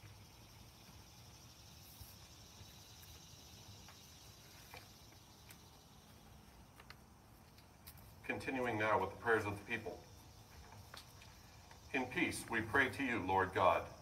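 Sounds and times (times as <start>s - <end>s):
faint insects chorus: 0.0s - 14.0s.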